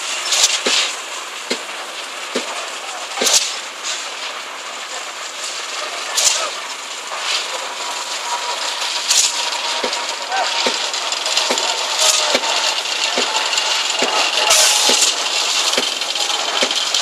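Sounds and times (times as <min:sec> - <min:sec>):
concrete pump clanking: 0:00.0 - 0:17.0
faint workers' voices: 0:00.0 - 0:17.0
site machinery din: 0:00.0 - 0:17.0.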